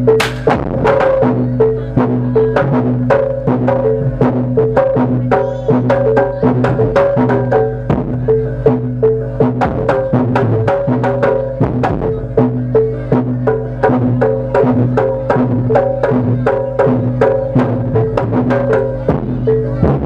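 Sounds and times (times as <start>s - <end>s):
drum strokes at a quick beat: 0.0s - 20.0s
tuned percussion repeating notes: 0.0s - 20.0s.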